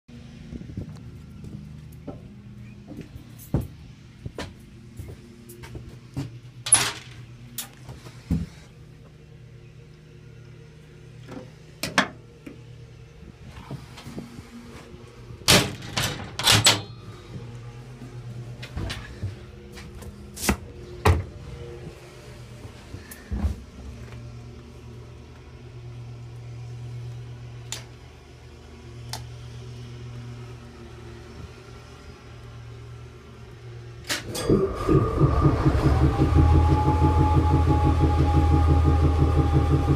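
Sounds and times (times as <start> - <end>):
diesel engine starting and running: 0.1 - 39.9.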